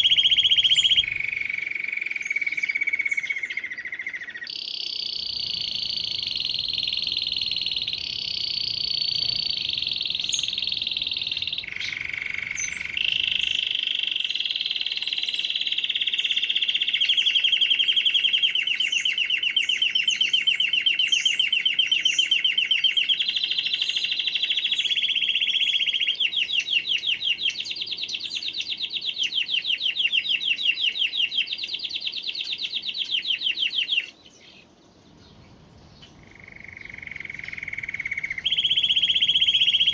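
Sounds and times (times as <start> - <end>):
canary singing trills: 0.0 - 39.9
faint short bird chirps: 2.2 - 34.6.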